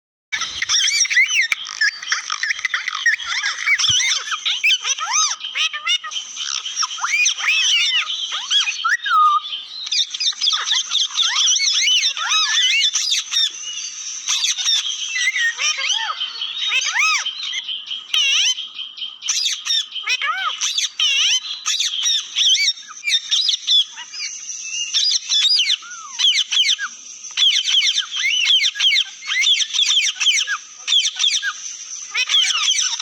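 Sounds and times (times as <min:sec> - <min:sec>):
parrots chattering: 0:00.4 - 0:33.0.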